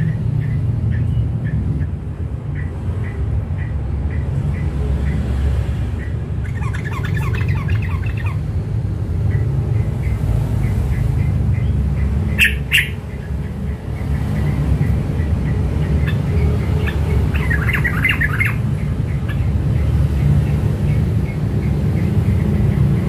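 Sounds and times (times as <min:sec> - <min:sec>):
bird chip notes and chattering: 0:00.0 - 0:08.6, 0:09.2 - 0:23.0
harsh bird calls: 0:00.0 - 0:08.6, 0:09.2 - 0:23.0.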